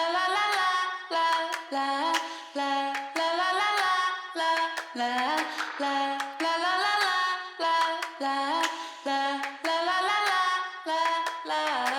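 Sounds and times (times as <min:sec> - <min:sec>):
woman singing: 0:00.0 - 0:11.9.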